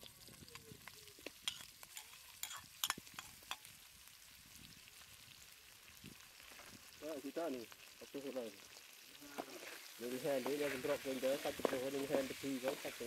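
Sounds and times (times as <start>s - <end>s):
food sizzling in hot oil: 0.0s - 13.0s
oil popping and crackling: 0.0s - 13.0s.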